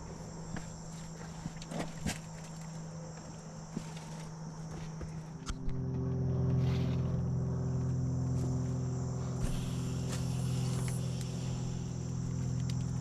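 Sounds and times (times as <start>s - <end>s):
crickets chirping: 0.0s - 13.0s
machine hum: 0.0s - 13.0s.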